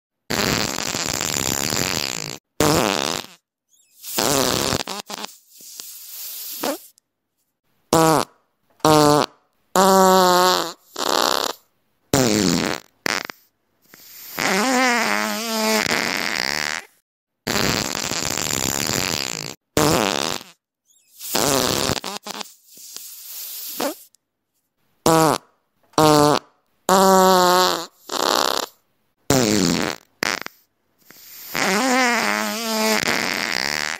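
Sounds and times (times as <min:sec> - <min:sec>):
fart sound effects: 0:00.3 - 0:06.9, 0:07.9 - 0:24.1, 0:25.0 - 0:33.9.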